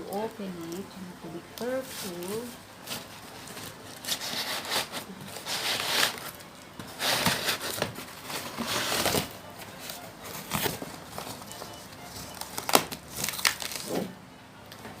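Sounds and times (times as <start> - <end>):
packaging crinkling and tearing: 1.5 - 14.8.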